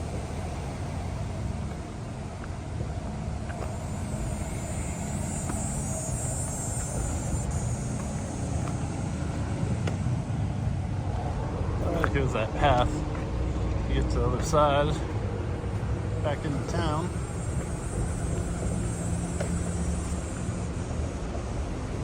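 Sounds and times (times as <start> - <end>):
passing vehicle hiss: 0.0 - 22.0
traffic rumble: 0.0 - 22.0.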